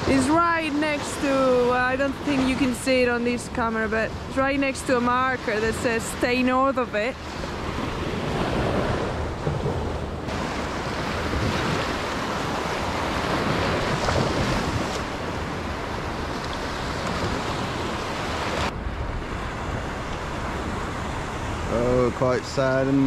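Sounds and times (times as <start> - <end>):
small waves breaking on sand: 0.0 - 23.0
wind rumbling on microphone: 0.0 - 23.0.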